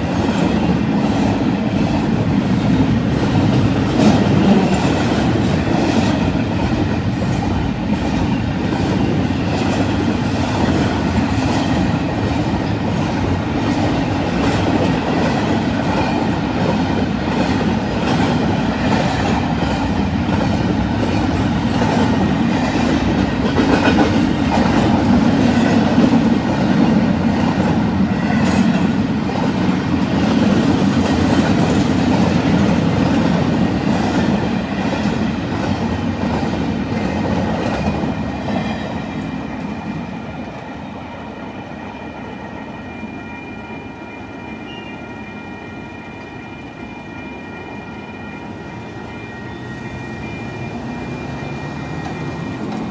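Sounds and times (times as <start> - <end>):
train wheels clattering on rails: 0.0 - 52.9.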